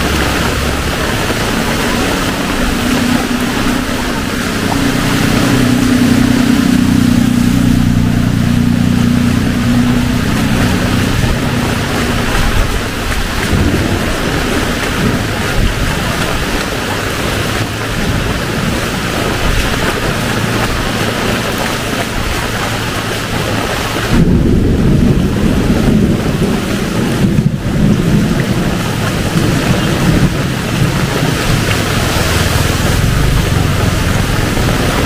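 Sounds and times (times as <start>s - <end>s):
heavy rain: 0.0s - 35.0s
low rumble: 0.0s - 35.0s
vehicle engine hum: 0.0s - 35.0s.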